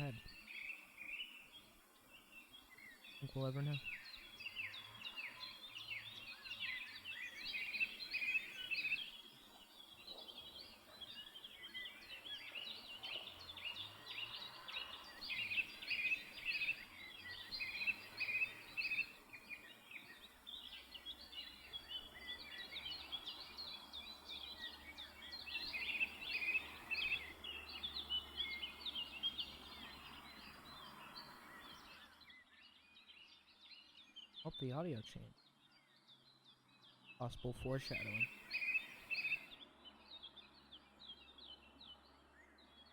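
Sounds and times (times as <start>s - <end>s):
small bird chirping: 0.0s - 42.9s.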